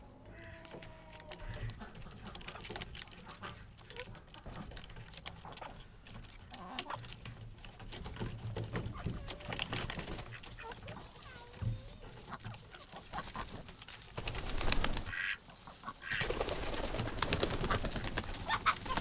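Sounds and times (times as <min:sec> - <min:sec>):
chickens calling: 0:00.0 - 0:19.0
rustling: 0:00.3 - 0:19.0.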